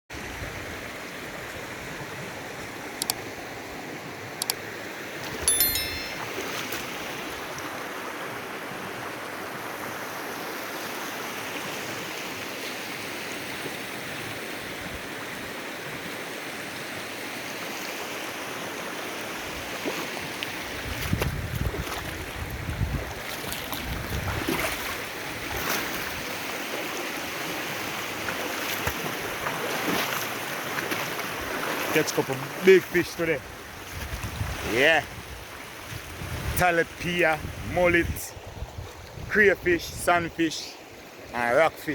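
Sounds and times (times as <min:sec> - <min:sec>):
river water rushing: 0:00.2 - 0:33.9.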